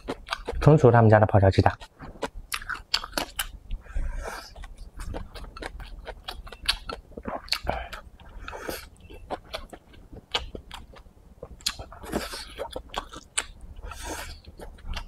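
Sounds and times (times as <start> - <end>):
close chewing with crunches: 0.0 - 0.9, 1.6 - 15.0.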